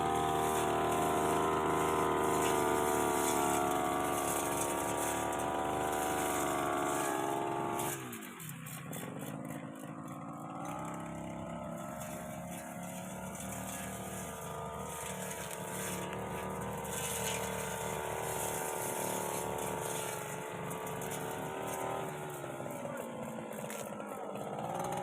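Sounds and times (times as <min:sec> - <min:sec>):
blade cutting through hedge: 0:00.0 - 0:25.0
brush cutter engine revving: 0:00.0 - 0:25.0.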